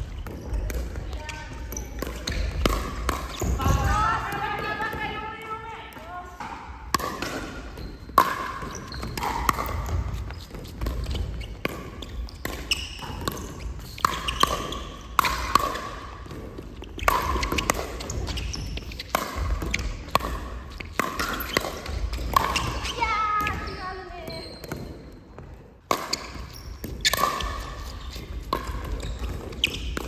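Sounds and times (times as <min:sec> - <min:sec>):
shoe squeaks: 0:00.0 - 0:04.8, 0:07.5 - 0:15.9, 0:16.7 - 0:30.0
ball bouncing: 0:00.0 - 0:30.0
paddle hitting ball: 0:01.8 - 0:05.1, 0:05.9 - 0:23.7, 0:25.9 - 0:30.0.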